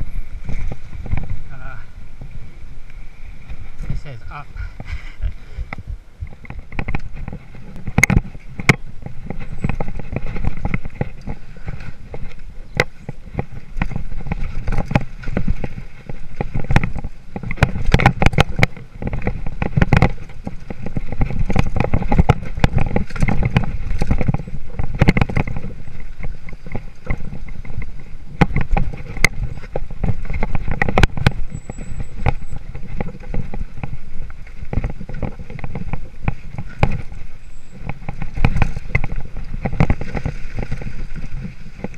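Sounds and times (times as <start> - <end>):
bike knocks and rattles: 0.0 - 2.4, 3.5 - 41.9
tyres rumbling over dirt: 0.0 - 41.9
wind buffeting microphone: 0.0 - 41.9.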